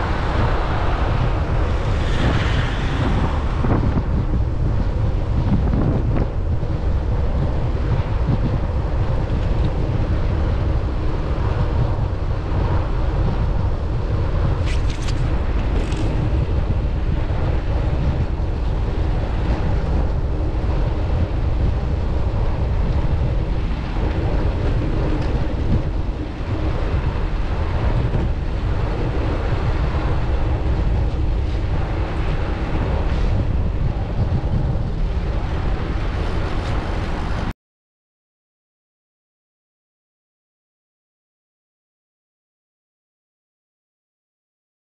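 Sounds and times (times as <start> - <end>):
wind buffeting microphone: 0.0 - 37.5.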